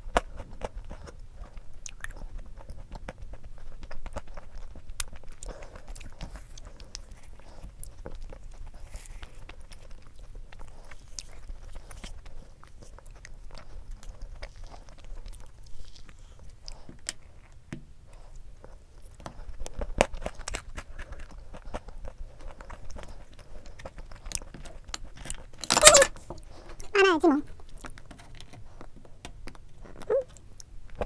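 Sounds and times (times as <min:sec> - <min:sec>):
chewing crunchy chocolate balls: 0:00.0 - 0:31.0.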